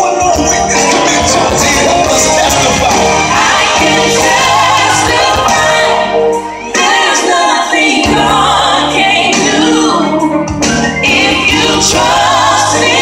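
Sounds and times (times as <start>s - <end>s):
gospel singing with band: 0.0s - 13.0s.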